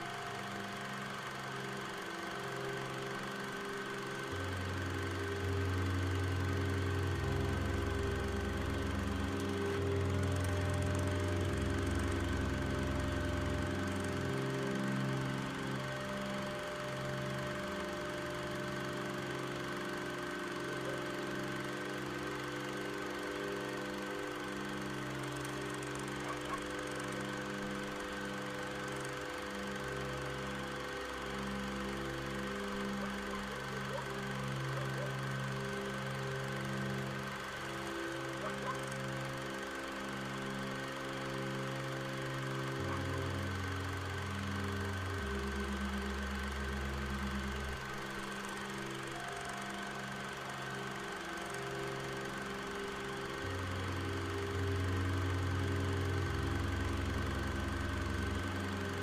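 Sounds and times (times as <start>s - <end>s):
low droning background music: 0.0s - 59.0s.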